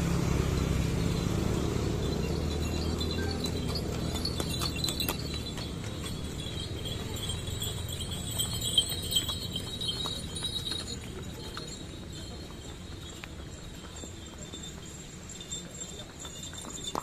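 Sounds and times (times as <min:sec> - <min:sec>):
small bells jingling: 0:00.2 - 0:17.0.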